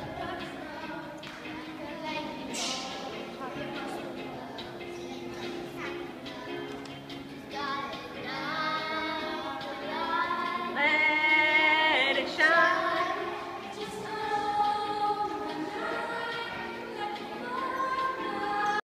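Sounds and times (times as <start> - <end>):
girls singing pop song: 0.0 - 18.8.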